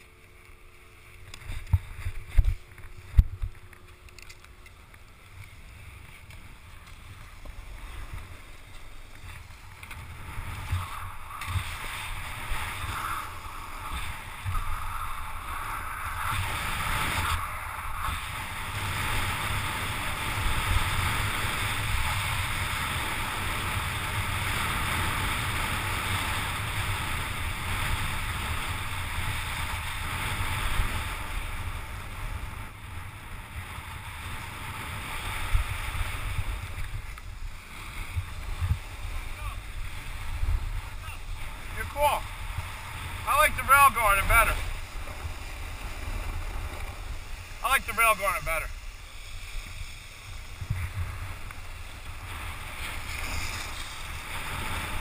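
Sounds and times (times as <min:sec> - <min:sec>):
wind noise on microphone: 0:01.2 - 0:55.0
snowboard hissing on snow: 0:10.2 - 0:55.0.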